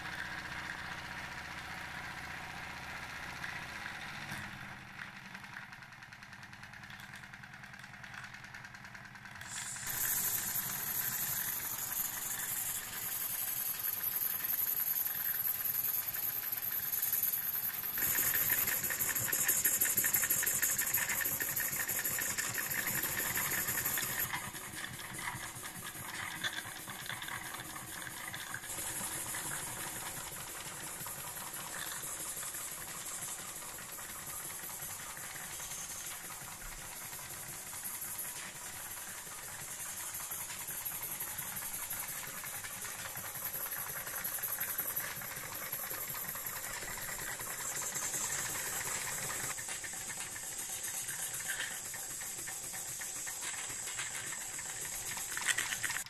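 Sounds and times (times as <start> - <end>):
steam engine chuffing rattle: 0.0 - 56.0
steam hissing: 9.4 - 56.0.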